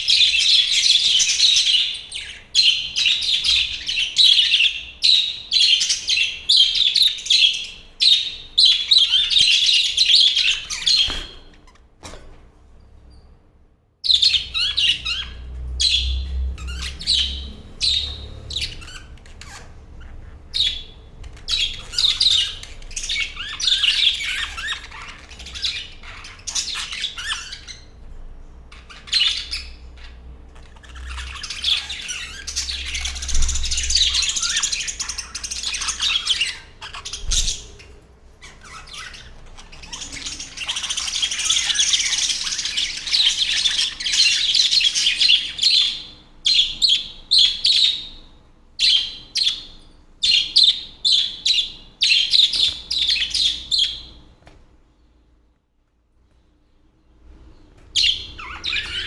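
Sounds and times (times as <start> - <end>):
budgerigars chirping and chattering: 0.0 - 11.8, 14.0 - 54.2, 57.6 - 59.0.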